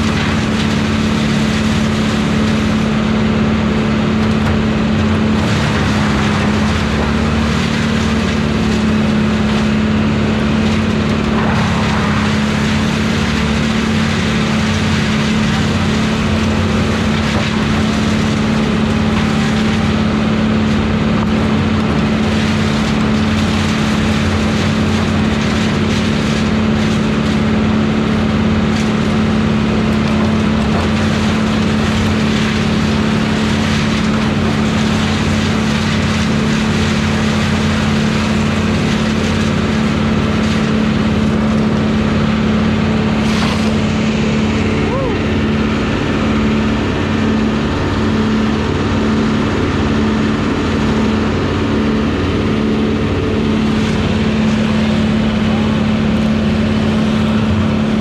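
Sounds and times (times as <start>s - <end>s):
brush chipper engine drone: 0.0s - 58.0s.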